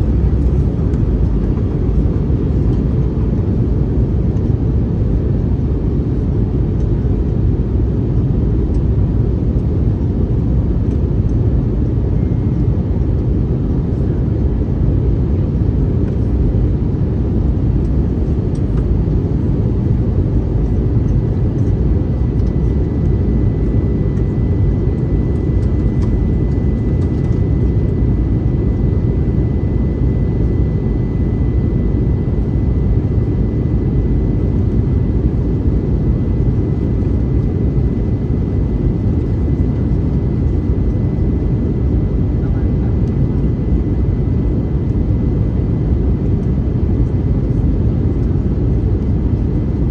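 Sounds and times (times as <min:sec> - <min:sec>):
faint steady whine: 0:00.0 - 0:49.2
airliner cabin engine noise: 0:00.0 - 0:49.9.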